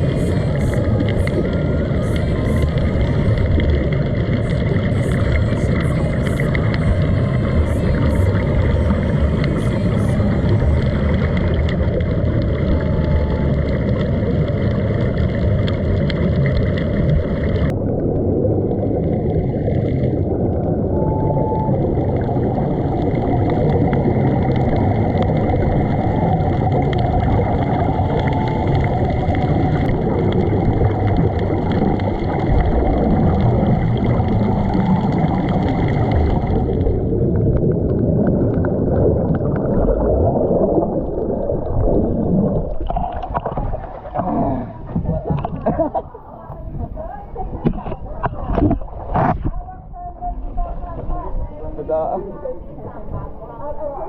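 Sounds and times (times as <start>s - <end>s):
underwater air bubbling: 0.0s - 54.0s.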